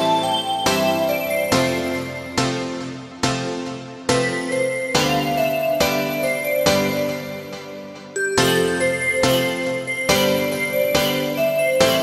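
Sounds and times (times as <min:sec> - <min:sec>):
background music with struck chords: 0:00.0 - 0:12.0.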